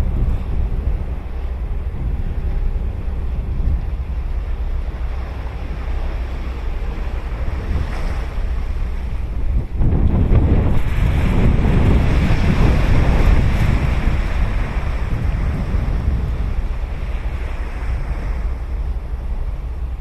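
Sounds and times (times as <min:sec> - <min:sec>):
ocean surf washing on shore: 0:00.0 - 0:20.0
wind rumbling on microphone: 0:00.0 - 0:20.0.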